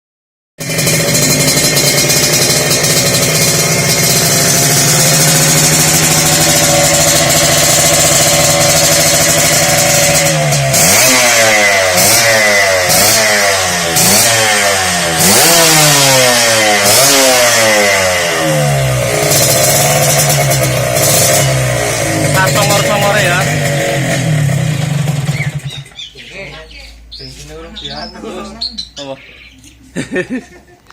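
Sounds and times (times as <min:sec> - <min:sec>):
motorcycle engine idling and revving: 0:00.6 - 0:29.0, 0:29.6 - 0:30.9.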